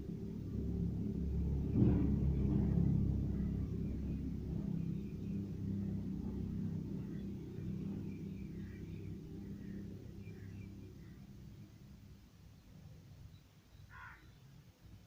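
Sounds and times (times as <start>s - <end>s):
vehicle engine rumble: 0.0s - 13.3s.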